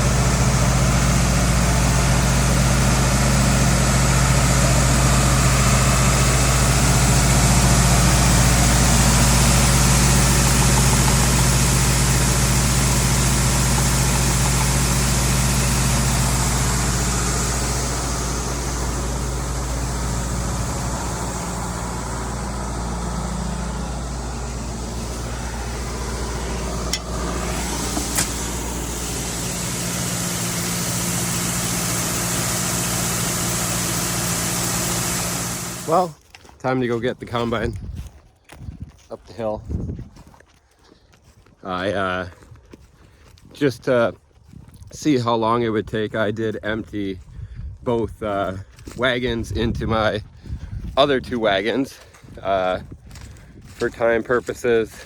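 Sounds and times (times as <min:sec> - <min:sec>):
tractor engine running: 0:00.0 - 0:38.0, 0:47.9 - 0:55.0.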